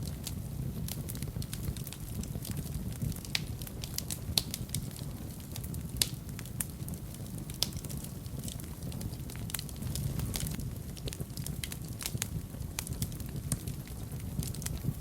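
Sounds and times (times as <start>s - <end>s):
logs crackling and popping: 0.0s - 15.0s
wood fire rumbling: 0.0s - 15.0s.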